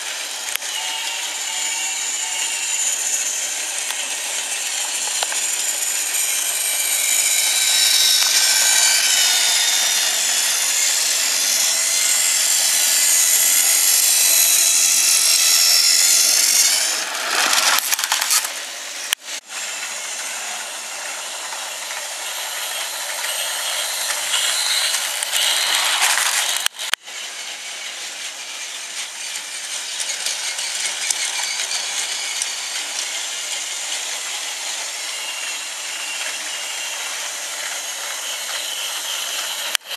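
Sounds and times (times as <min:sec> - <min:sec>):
toy train motors whirring: 0:00.0 - 0:39.9
wheels rattling on plastic track: 0:00.0 - 0:39.9.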